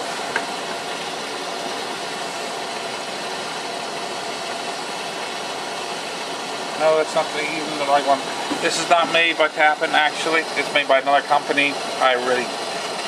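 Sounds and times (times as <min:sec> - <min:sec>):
blower motor noise: 0:00.0 - 0:13.0
gas furnace humming: 0:00.0 - 0:13.0.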